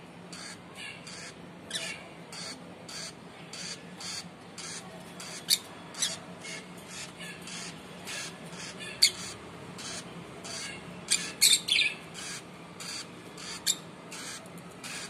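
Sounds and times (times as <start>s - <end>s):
lovebirds chirping: 0.4s - 15.0s.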